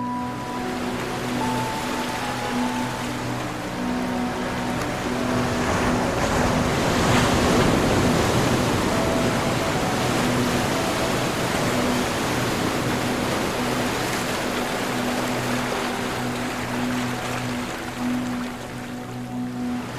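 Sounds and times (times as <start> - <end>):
ocean waves breaking: 0.0 - 19.9.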